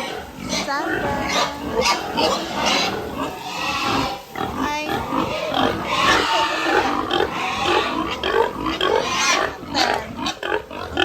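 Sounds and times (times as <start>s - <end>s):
pigs grunting and crying: 0.0s - 11.0s.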